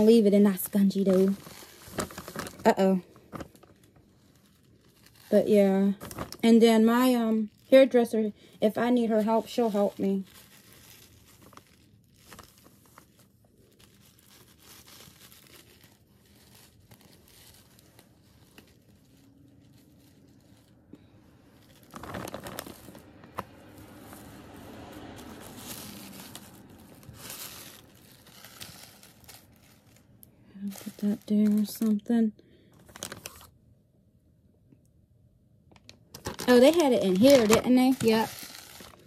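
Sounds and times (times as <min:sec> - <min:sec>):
packaging rustling and crinkling: 0:00.0 - 0:33.6, 0:35.7 - 0:39.0.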